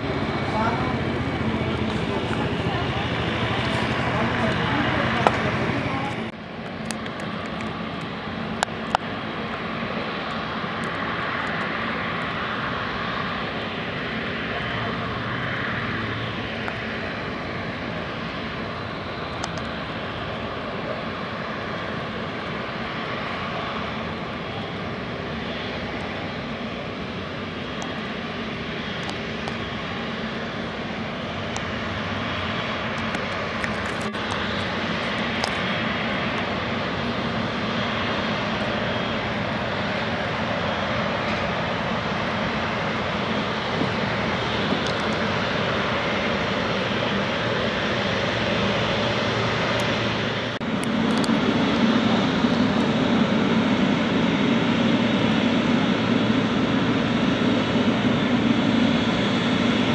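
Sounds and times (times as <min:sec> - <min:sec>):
jet engines rushing and whining: 0:00.0 - 0:59.9.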